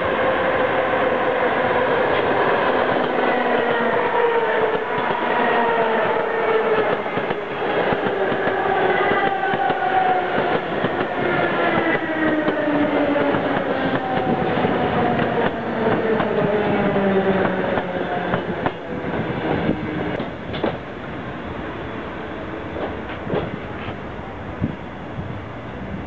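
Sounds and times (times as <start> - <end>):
descending train whines: 0.0 - 26.0
train wheels on rails: 0.0 - 26.0.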